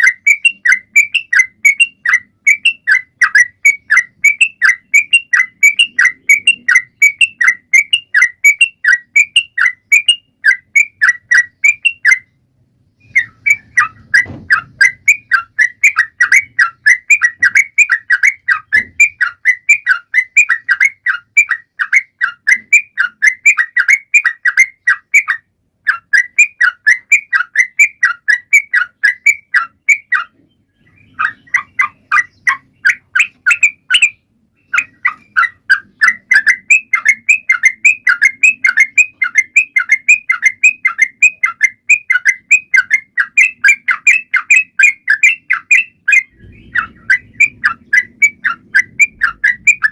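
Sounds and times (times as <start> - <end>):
bird singing rapid chirps: 0.0 - 49.9.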